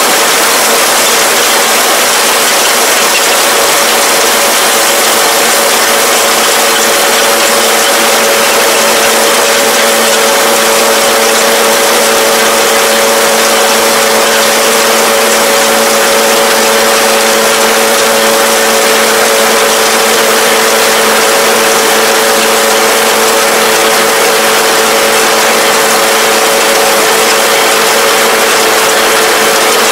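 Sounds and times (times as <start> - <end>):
tractor and baler running: 0.0 - 29.9.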